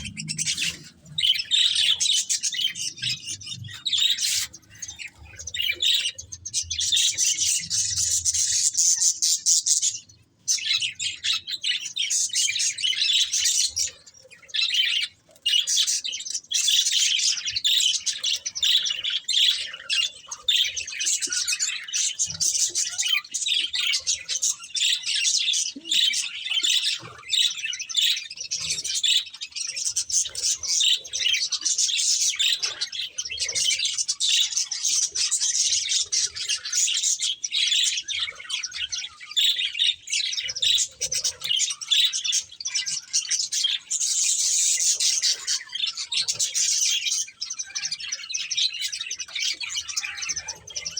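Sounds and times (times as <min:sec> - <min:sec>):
budgerigars chattering and chirping: 0:00.0 - 0:50.9.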